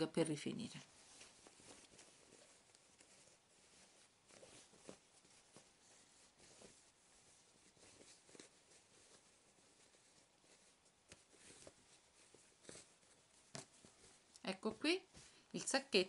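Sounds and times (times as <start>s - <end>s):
soft fabric rustles: 0.0s - 16.0s.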